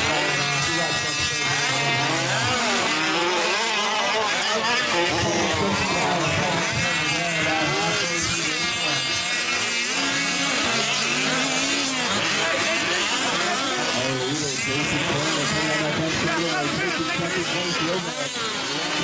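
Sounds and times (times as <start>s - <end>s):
small two-stroke engines racing: 0.0s - 19.0s.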